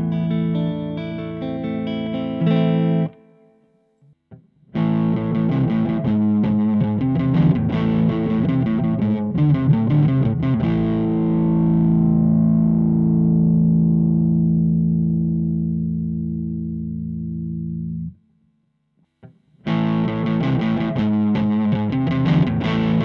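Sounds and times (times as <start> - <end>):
distorted electric guitar: 0.0 - 3.6, 4.7 - 18.2, 19.6 - 23.0.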